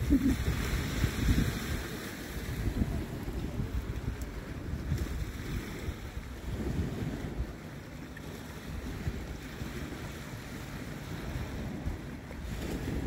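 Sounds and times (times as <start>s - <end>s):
small waves on rocky shore: 0.0s - 13.0s
wind buffeting microphone: 0.0s - 13.0s.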